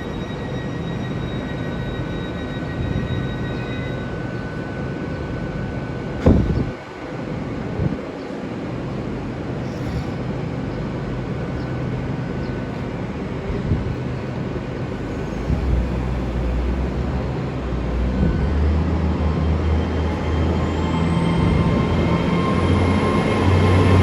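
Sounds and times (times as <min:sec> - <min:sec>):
train diesel engine hum: 0:00.0 - 0:24.0.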